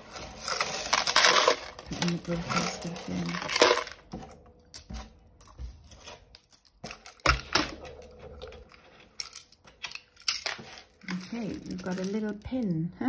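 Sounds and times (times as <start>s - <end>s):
jewellery clicking and clinking: 0.3s - 12.7s.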